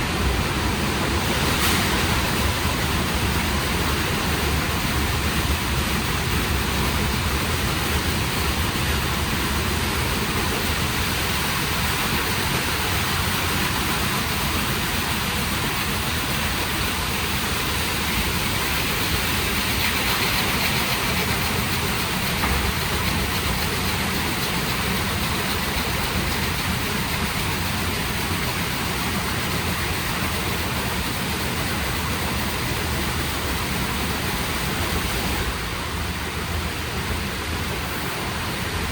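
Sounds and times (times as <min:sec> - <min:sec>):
car wash machine noise: 0:00.0 - 0:38.9
car wash water rushing: 0:00.0 - 0:38.9.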